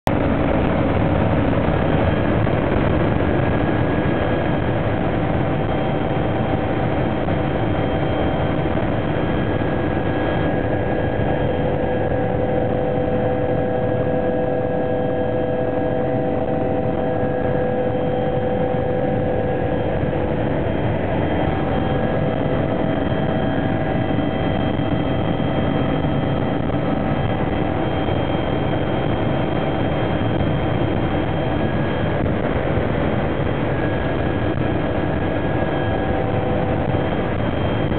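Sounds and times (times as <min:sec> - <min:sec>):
helicopter engine and rotor noise: 0:00.0 - 0:37.9
turbine whine: 0:00.0 - 0:37.9.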